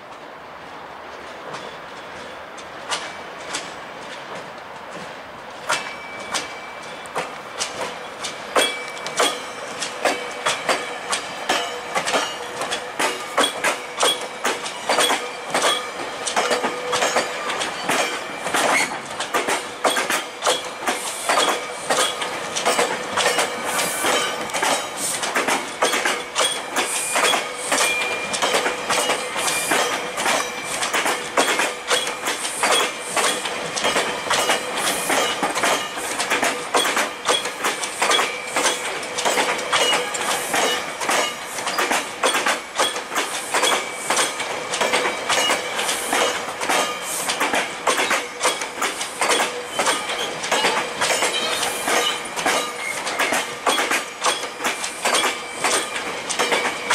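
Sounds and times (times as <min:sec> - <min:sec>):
train wheels clacking over rail joints: 0:00.0 - 0:56.9.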